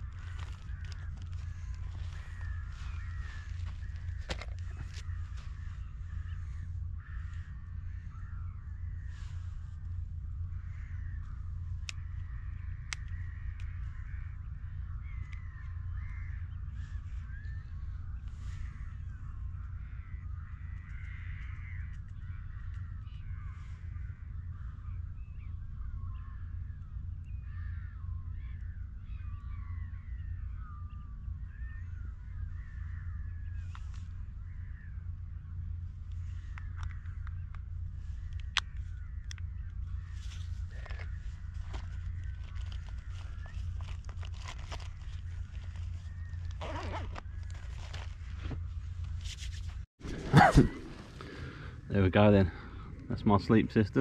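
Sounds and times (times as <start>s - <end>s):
flock of birds calling: 0.0s - 48.9s, 50.0s - 54.0s
steady low rumble: 0.0s - 54.0s.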